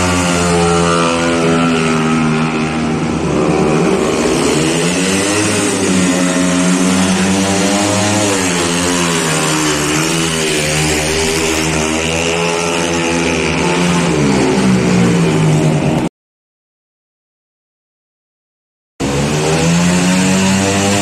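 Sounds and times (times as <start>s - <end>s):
motorcycle engine revving: 0.0s - 16.1s, 19.0s - 21.0s.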